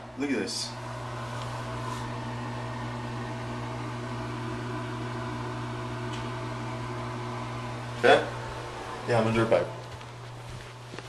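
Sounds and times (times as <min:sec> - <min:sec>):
fan humming with hiss: 0:00.0 - 0:11.0.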